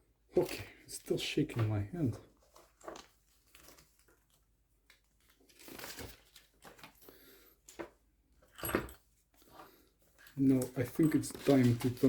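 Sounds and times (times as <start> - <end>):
packaging rustling and crinkling: 0.4 - 8.0, 9.4 - 12.0.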